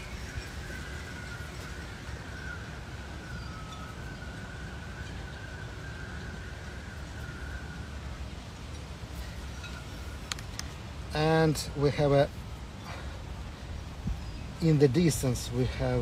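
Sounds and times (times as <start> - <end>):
faint wavering high whine: 0.0 - 16.0.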